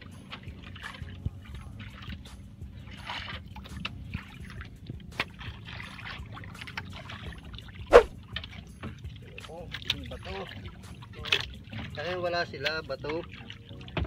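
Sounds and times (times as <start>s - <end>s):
water lapping against boat: 0.0s - 14.0s.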